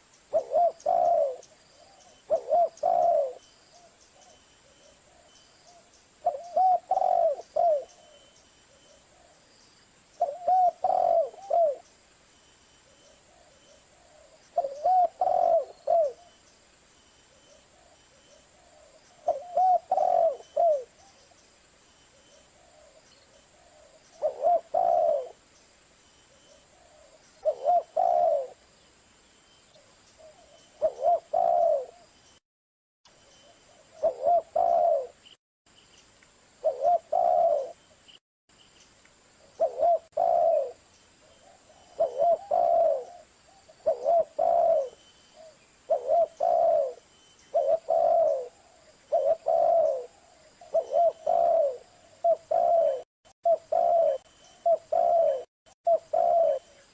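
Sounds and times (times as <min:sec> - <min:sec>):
dove cooing: 0:00.0 - 0:09.4, 0:10.2 - 0:11.9, 0:13.2 - 0:16.4, 0:17.4 - 0:21.2, 0:22.1 - 0:25.4, 0:26.4 - 0:28.6, 0:30.2 - 0:32.1, 0:33.7 - 0:35.2, 0:36.6 - 0:37.8, 0:39.5 - 0:56.9.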